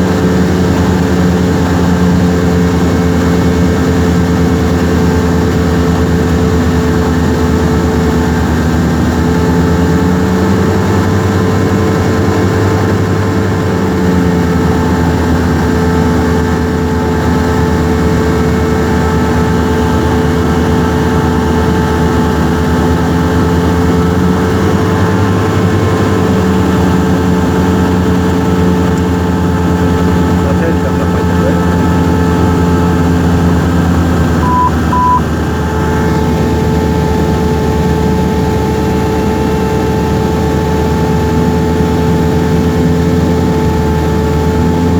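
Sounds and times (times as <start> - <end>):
airplane engine and propeller droning: 0.0 - 44.9.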